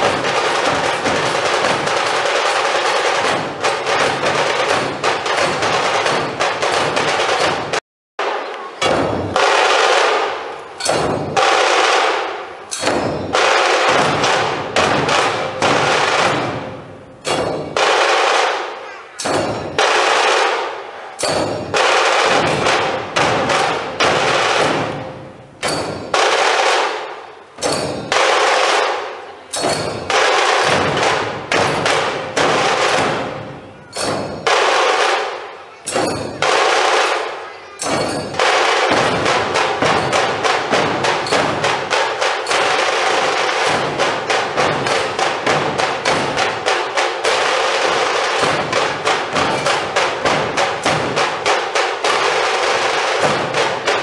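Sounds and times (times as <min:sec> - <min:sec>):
drums beating: 0:00.0 - 0:54.0.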